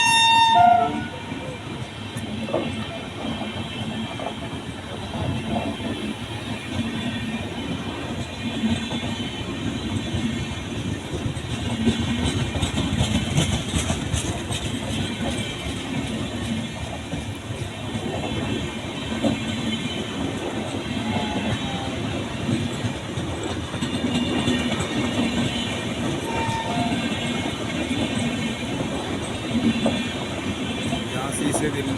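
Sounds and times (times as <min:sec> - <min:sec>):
train coaches rumbling on track: 0:00.0 - 0:31.9.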